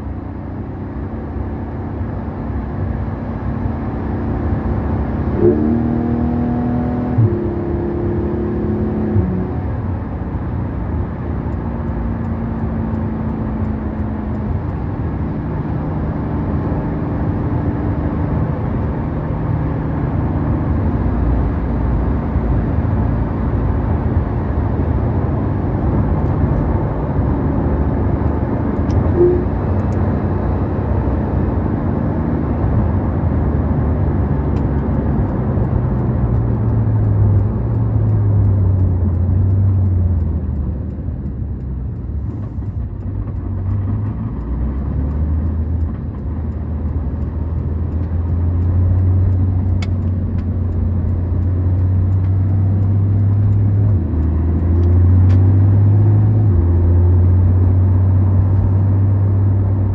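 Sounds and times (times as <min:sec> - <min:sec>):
car engine cruising: 0:00.0 - 0:59.9
road and tyre noise: 0:00.0 - 0:59.9.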